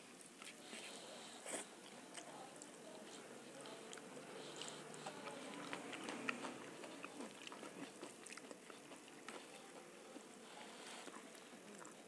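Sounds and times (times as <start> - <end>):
person chewing softly: 0.0 - 12.0.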